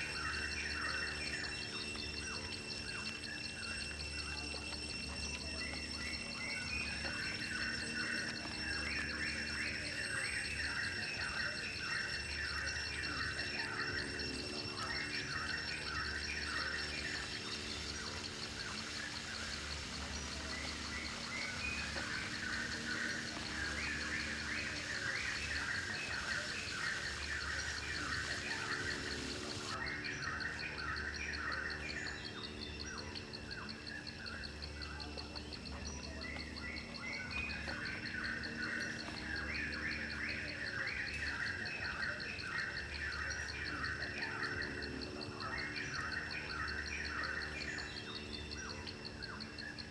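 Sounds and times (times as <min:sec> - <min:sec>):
birds chirping: 0:00.0 - 0:49.9
insect trill: 0:00.0 - 0:49.9.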